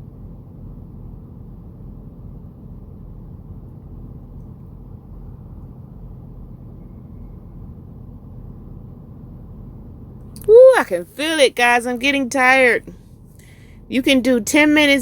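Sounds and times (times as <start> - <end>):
truck rumble inside cab: 0.0 - 15.0.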